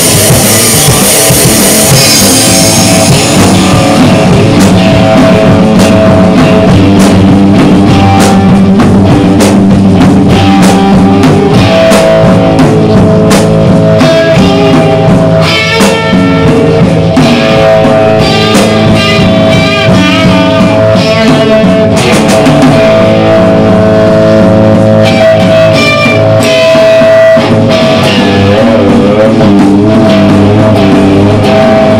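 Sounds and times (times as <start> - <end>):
drum and cymbal hits: 0.0 - 31.9
rock band playing loud: 0.0 - 31.9.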